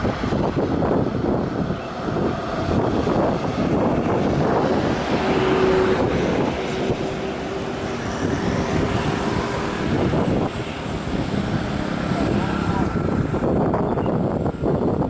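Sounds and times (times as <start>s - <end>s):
diesel truck engine under load: 0.0s - 15.0s
steady engine whine: 0.0s - 15.0s.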